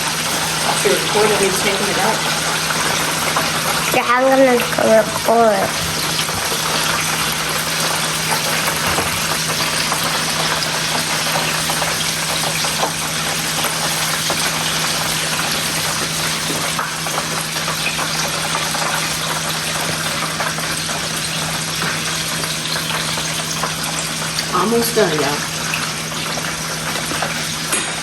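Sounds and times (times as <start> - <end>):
deep-frying sizzle and crackle: 0.0 - 28.0.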